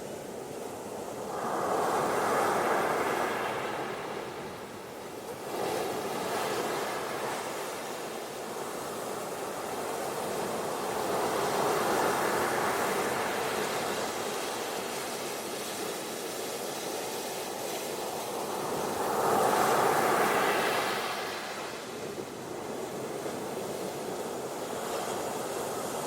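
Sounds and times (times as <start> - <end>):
ocean waves washing onto beach: 0.1 - 26.0.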